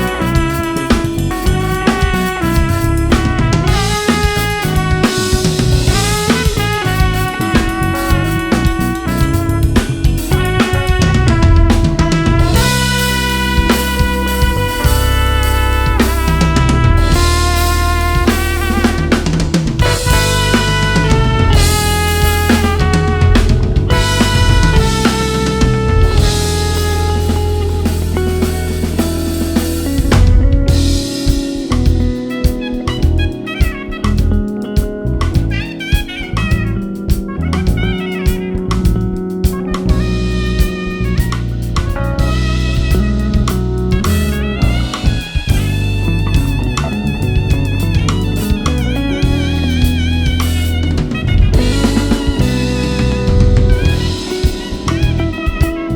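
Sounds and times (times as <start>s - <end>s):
drum and crash cymbal hit: 0.0s - 33.8s, 39.6s - 55.9s
bass line: 0.0s - 55.9s
lead melody with bending notes: 0.0s - 55.9s
live band playing: 0.0s - 55.9s.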